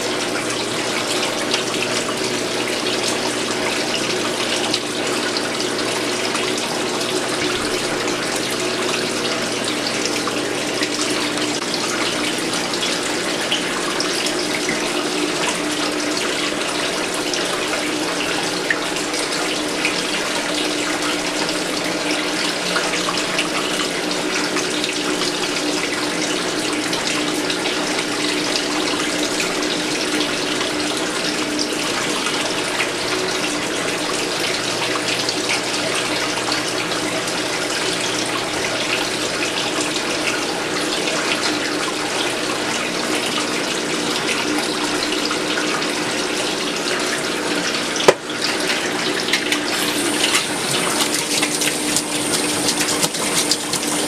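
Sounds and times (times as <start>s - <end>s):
water running in wash tub: 0.0s - 54.0s.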